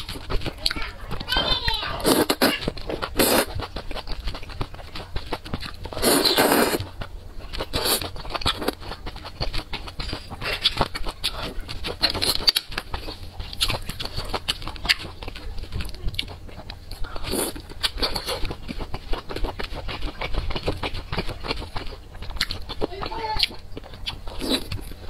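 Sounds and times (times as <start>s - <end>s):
person chewing noodles: 0.0s - 25.0s.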